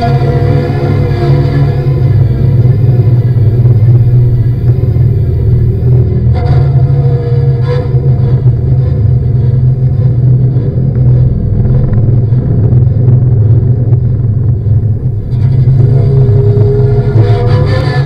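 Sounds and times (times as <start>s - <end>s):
low droning rumble: 0.0s - 18.0s.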